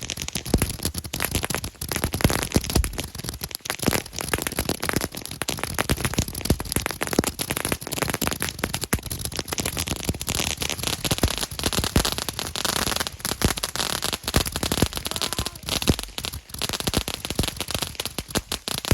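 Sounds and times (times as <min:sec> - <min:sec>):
firecrackers popping: 0:00.0 - 0:18.9.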